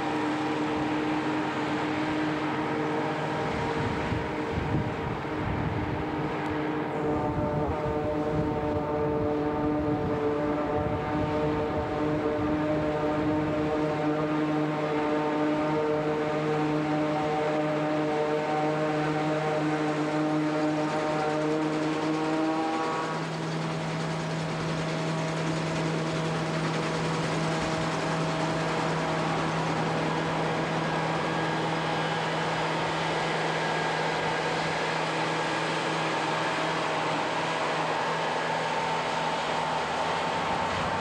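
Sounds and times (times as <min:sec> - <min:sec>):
forage harvester running: 0:00.0 - 0:41.0
high machine whine: 0:00.0 - 0:41.0.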